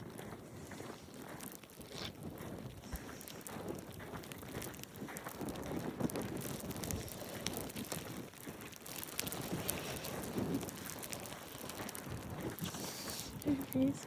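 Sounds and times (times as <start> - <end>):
wind buffeting microphone: 2.2 - 14.0.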